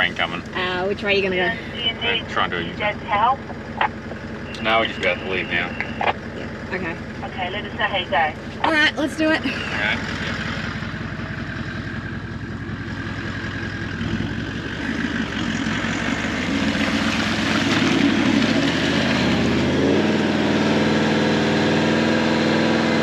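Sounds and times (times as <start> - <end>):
engine working under load: 0.0 - 23.0.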